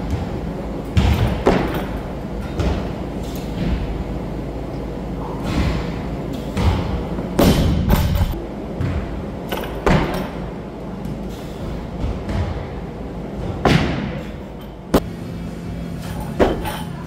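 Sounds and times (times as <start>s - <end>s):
low gym background: 0.0s - 17.0s.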